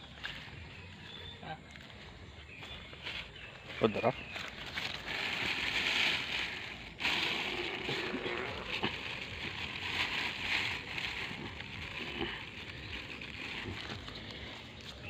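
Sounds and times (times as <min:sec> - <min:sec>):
plastic bag rustling and crinkling: 0:02.6 - 0:15.0.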